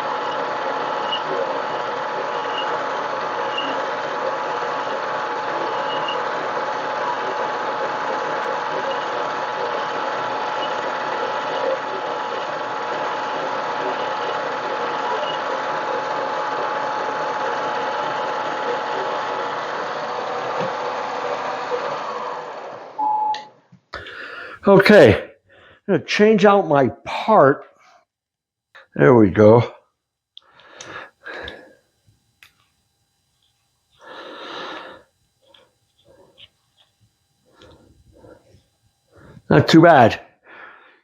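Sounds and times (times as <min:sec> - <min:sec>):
lathe motor whine: 0:00.0 - 0:23.1, 0:30.6 - 0:41.0.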